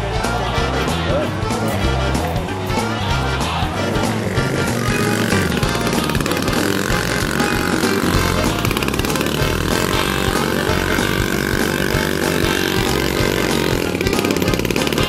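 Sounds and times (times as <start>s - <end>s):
moped engines revving: 0.0s - 15.0s.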